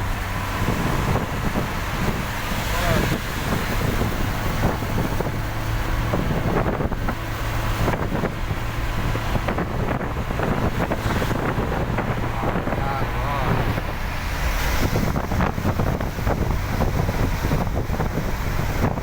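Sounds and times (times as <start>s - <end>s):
low engine hum: 0.0s - 19.0s
road and wind noise: 0.0s - 19.0s.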